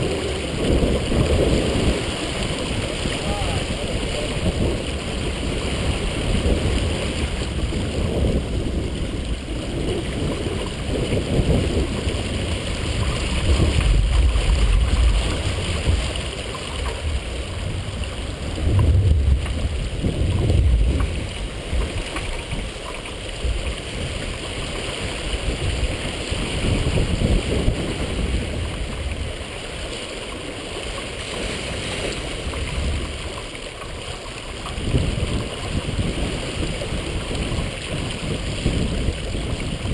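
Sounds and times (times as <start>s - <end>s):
water rushing along boat hull: 0.0s - 39.9s
wind buffeting microphone: 0.0s - 39.9s.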